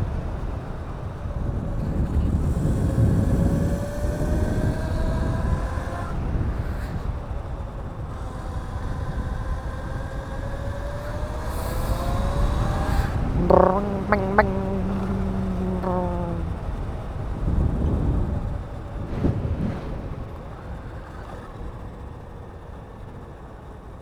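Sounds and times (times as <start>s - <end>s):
wind rumble on microphone: 1.1s - 16.7s, 17.3s - 22.0s.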